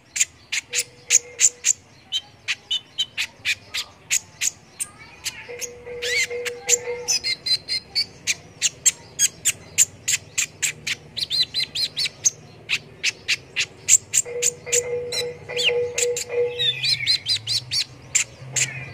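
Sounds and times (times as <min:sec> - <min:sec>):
sunbird singing high chirps: 0:00.0 - 0:18.9.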